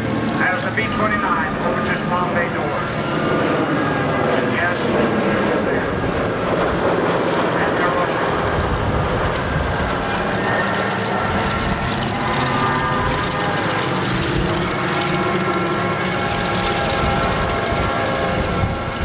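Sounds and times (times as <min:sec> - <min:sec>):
propeller plane droning overhead: 0:00.0 - 0:19.0.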